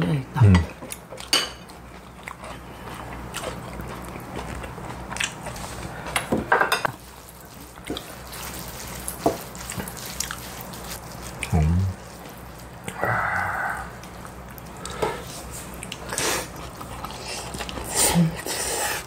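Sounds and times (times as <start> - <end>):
low steady hum: 0.0 - 19.0
chewing: 0.6 - 19.0.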